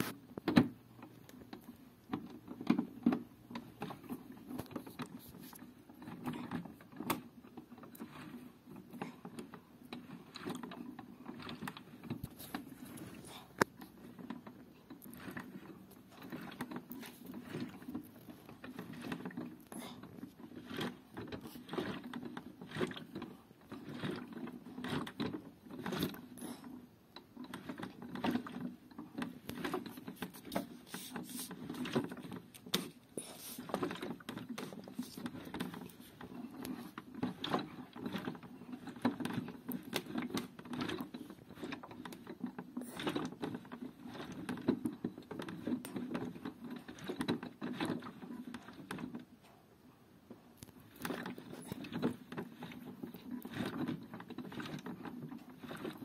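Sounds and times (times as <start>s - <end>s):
plastic clicks and rattles: 0.0s - 49.3s, 50.6s - 56.0s.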